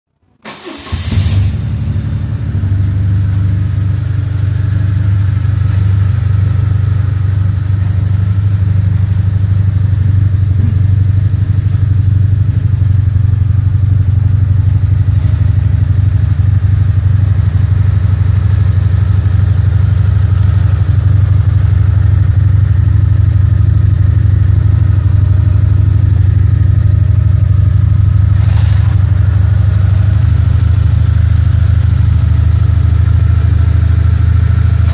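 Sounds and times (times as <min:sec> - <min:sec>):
motorcycle engine starting and idling: 0:00.4 - 0:34.9.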